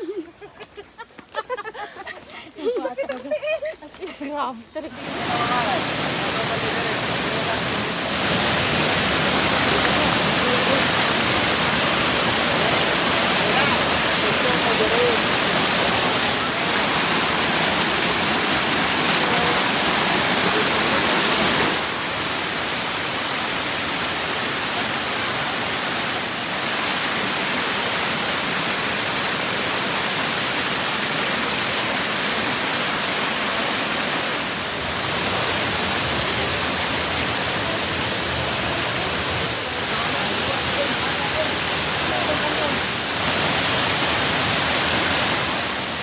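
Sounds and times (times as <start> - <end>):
waterfall rushing: 4.8 - 46.0.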